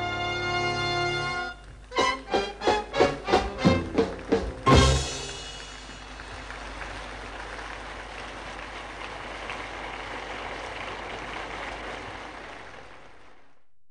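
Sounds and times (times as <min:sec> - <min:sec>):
audience applauding: 0:01.5 - 0:13.7.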